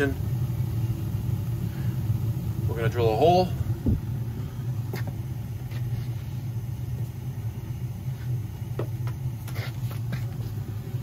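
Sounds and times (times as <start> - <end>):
gas boiler burner rumble: 0.0 - 11.0.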